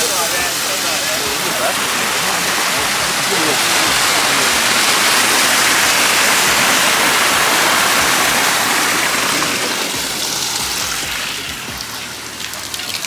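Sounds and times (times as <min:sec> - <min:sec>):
rush of running water: 0:00.0 - 0:13.0.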